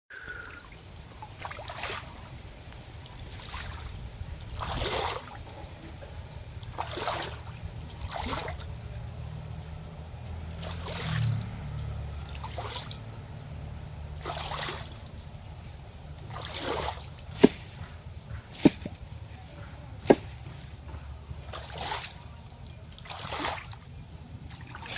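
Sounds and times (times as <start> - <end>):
water sloshing and splashing: 0.2 - 24.9.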